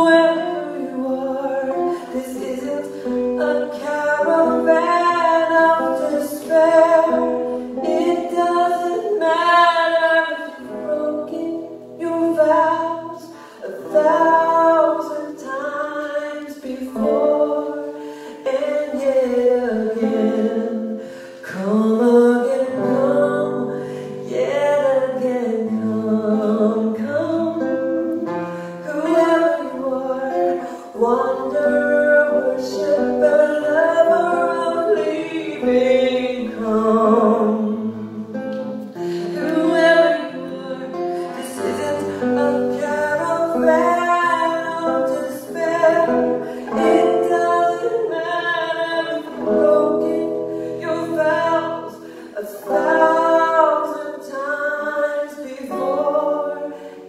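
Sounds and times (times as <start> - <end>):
acoustic guitar: 0.0 - 57.0
woman singing: 0.0 - 57.0.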